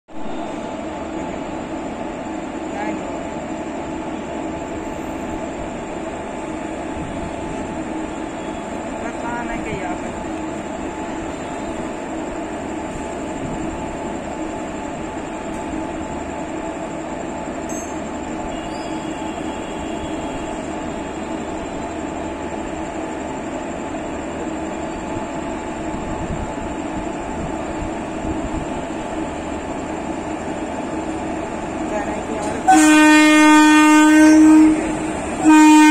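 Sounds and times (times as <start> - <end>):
locomotive hum: 0.1 - 35.9
train rumbling: 0.1 - 35.9.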